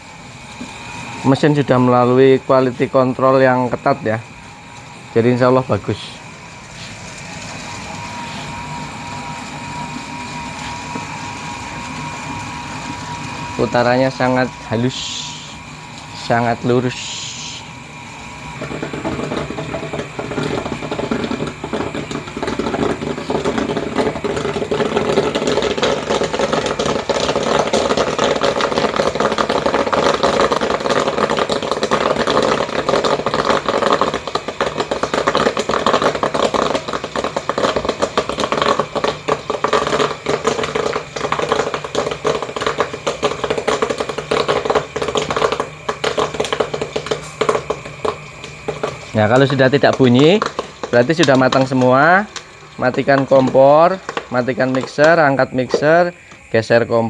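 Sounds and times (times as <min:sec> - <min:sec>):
popcorn popping: 0:00.0 - 0:56.7
steady motor hum: 0:00.0 - 0:57.0.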